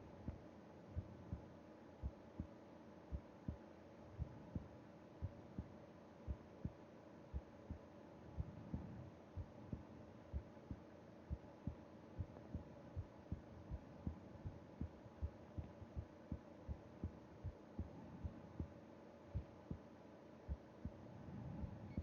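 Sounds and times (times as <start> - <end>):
faint hum: 0.0 - 22.0
heartbeat thumps: 1.0 - 3.6, 4.2 - 19.9, 20.5 - 22.0.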